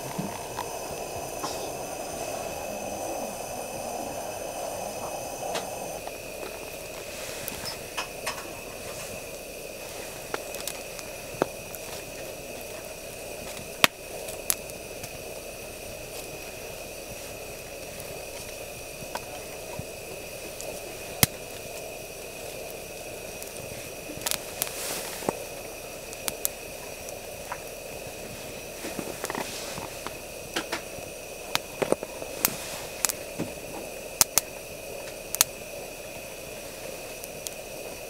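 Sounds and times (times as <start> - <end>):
fire hissing: 0.0 - 38.0
wood fire popping and crackling: 0.0 - 38.0.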